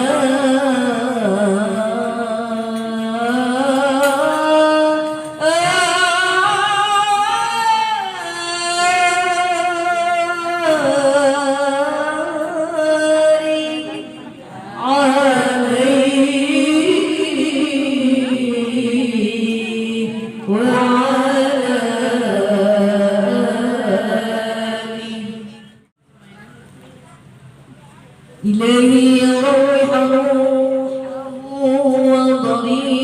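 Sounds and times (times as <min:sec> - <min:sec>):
woman chanting: 0:00.0 - 0:25.8, 0:28.4 - 0:33.0.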